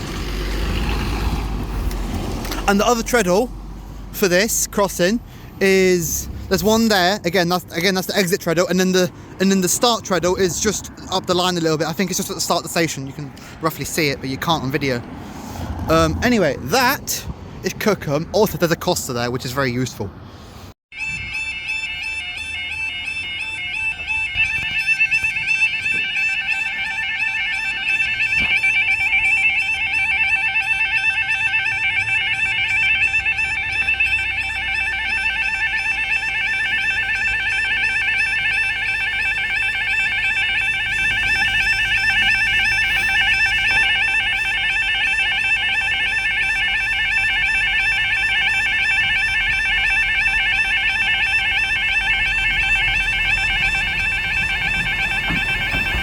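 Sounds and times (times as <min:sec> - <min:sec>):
level crossing alarms warbling: 0:00.0 - 0:03.5, 0:04.2 - 0:15.0, 0:20.9 - 0:56.0
very fast warbling alarm: 0:02.4 - 0:03.6, 0:04.2 - 0:14.1, 0:20.9 - 0:56.0.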